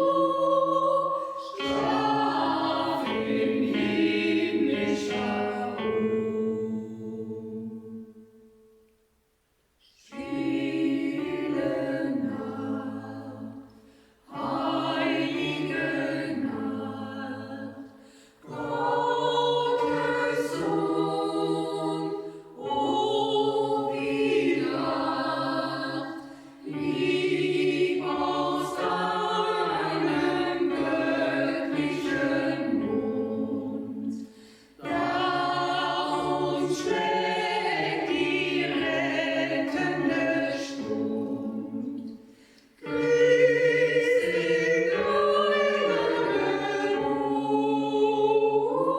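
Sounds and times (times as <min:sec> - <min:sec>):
choir singing: 0:00.0 - 0:08.9, 0:09.9 - 0:48.9.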